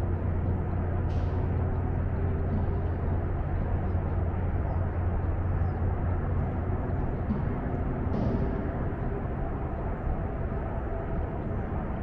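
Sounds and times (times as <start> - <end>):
highway traffic rumble: 0.0 - 12.0
low hum: 0.0 - 12.0.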